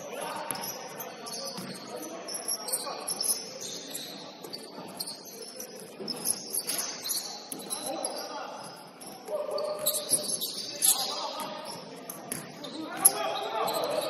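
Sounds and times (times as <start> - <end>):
sneakers squeaking on court: 0.0 - 14.0.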